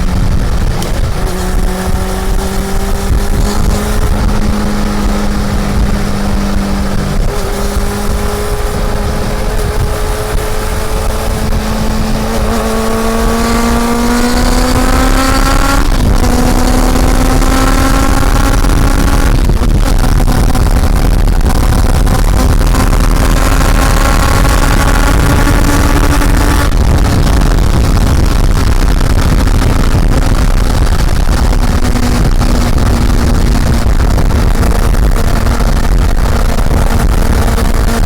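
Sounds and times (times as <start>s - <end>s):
motorcycle engine accelerating: 0.0s - 38.0s
wind rumble: 0.0s - 38.0s.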